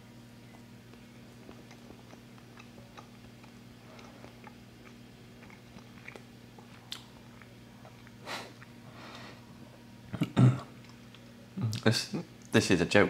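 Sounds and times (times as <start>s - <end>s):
low electrical hum: 0.0s - 13.0s
man chewing: 0.4s - 11.8s.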